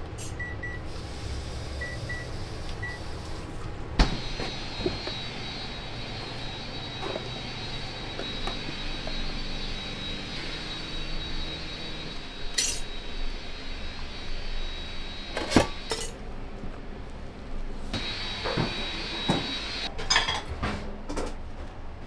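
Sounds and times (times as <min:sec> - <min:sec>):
kitchen machinery hum: 0:00.0 - 0:22.0.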